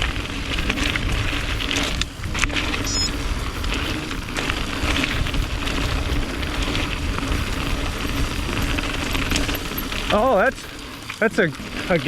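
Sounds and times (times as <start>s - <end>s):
mountain bike rolling on dirt: 0.0s - 12.0s
wind on microphone: 0.0s - 12.0s.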